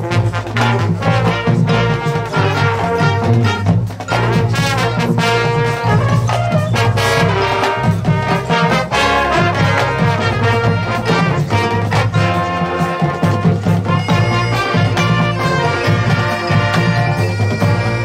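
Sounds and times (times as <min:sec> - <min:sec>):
brass chords and melody: 0:00.0 - 0:18.0
drum strokes: 0:00.0 - 0:18.0.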